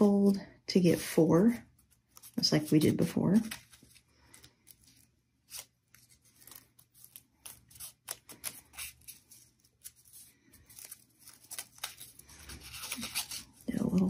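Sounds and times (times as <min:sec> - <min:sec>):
paper crinkling and rustling: 0:01.6 - 0:14.0.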